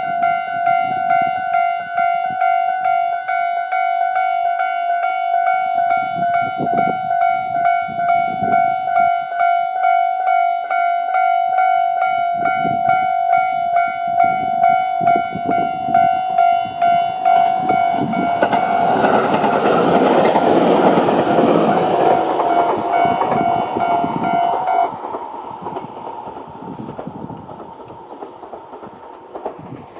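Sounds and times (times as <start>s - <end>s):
level crossing warning bells: 0.0s - 29.4s
train passing with wheel clatter: 0.0s - 29.9s.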